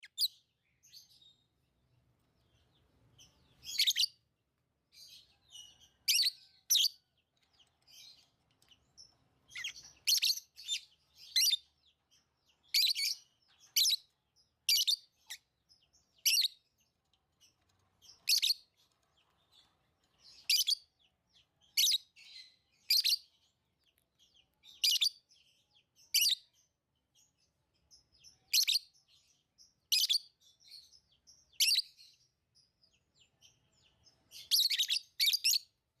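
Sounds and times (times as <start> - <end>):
lovebirds chirping: 0.0 - 36.0.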